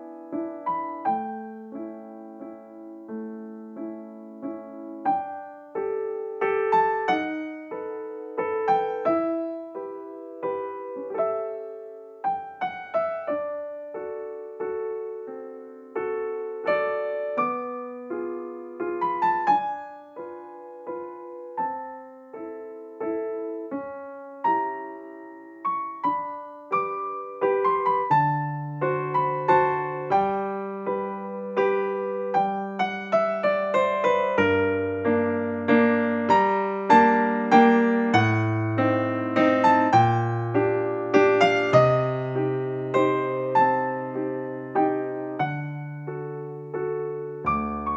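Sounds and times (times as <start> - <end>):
gentle piano melody: 0.0 - 47.9
piano bass line: 0.0 - 47.9.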